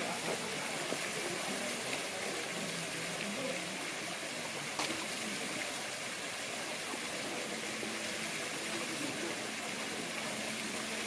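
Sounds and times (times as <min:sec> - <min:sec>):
faint distant voices: 0:00.0 - 0:11.0
waterfall rushing: 0:00.0 - 0:11.0.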